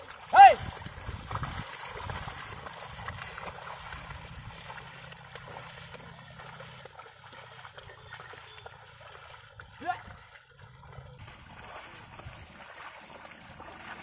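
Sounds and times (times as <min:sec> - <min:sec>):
hooves splashing in mud: 0:00.0 - 0:14.0
wooden plank dragged through water: 0:00.0 - 0:14.0.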